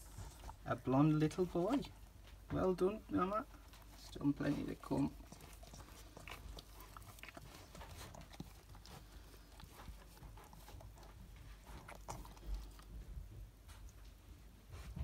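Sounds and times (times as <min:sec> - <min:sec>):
dog licking puppy: 0:00.0 - 0:14.4.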